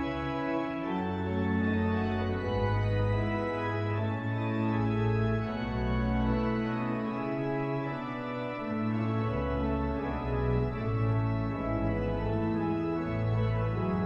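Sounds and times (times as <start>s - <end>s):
pipe organ playing chords: 0.0s - 14.0s.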